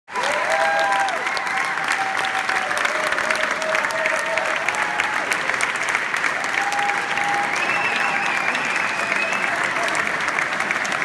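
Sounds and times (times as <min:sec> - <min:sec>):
people cheering and whooping: 0:00.1 - 0:05.6, 0:06.2 - 0:11.0
large audience clapping: 0:00.1 - 0:11.0.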